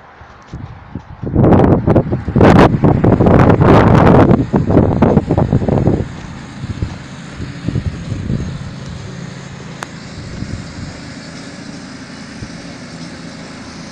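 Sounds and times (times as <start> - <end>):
low engine hum: 0.0 - 13.9
wind buffeting microphone: 0.0 - 13.9.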